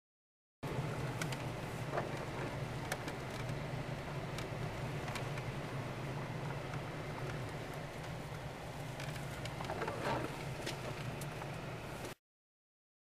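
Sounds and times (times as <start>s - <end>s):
car engine and tyres drone: 0.6s - 12.2s.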